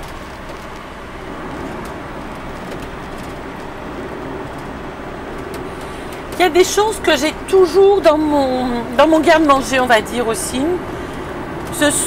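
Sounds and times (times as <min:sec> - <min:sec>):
vehicle engine and tyre hum: 0:00.0 - 0:12.0.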